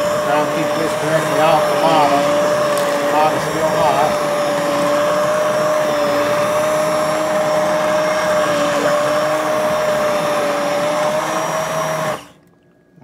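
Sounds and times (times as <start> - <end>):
immersion blender motor whine: 0.0 - 12.4.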